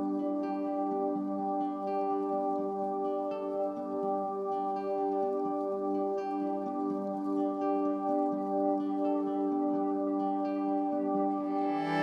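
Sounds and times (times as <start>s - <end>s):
music of long held tones: 0.0s - 12.0s.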